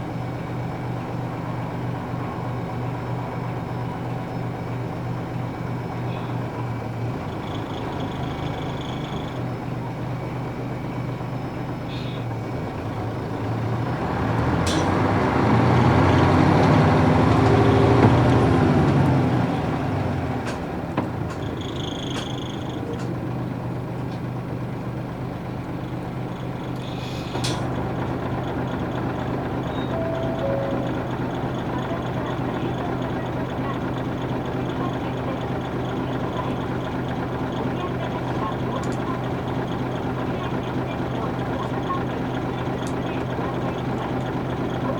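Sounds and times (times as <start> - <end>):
diesel bus engine running: 0.0 - 44.9.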